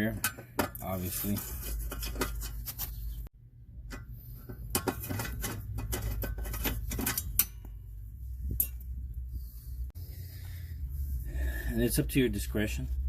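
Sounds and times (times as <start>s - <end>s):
low steady hum: 0.1s - 13.0s.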